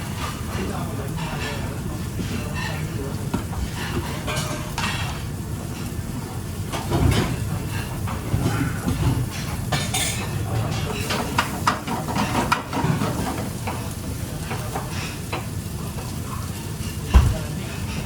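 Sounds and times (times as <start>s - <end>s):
dishes and utensils clinking: 0.1s - 5.9s, 6.7s - 18.0s.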